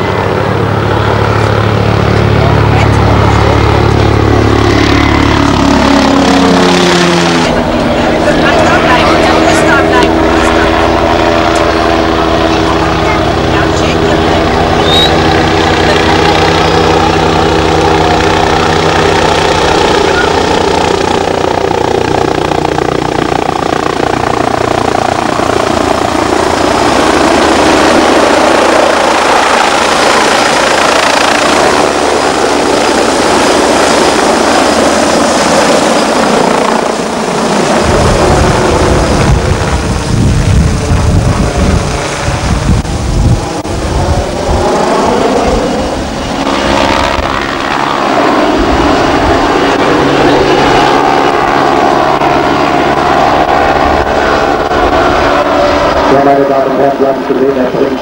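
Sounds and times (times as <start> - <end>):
gusty low rumble: 0.0 - 56.9
helicopter engine whine: 0.0 - 58.0
helicopter rotor noise: 0.0 - 58.0.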